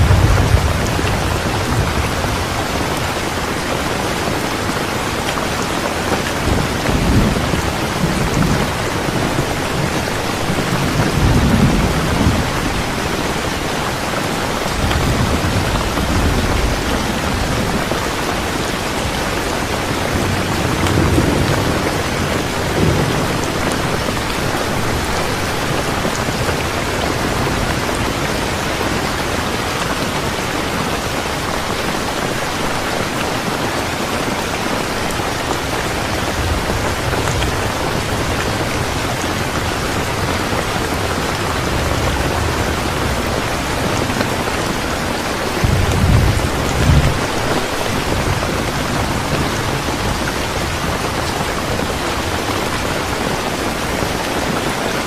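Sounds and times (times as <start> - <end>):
low thunder rumbling: 0.0 - 29.7, 33.6 - 54.3
heavy rain: 0.0 - 55.0.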